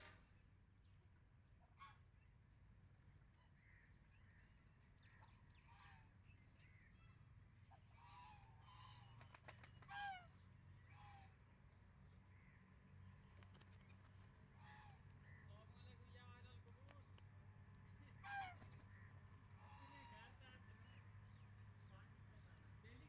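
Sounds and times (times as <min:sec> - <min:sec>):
low steady hum: 0:00.0 - 0:23.0
birds honking calls: 0:03.2 - 0:23.0.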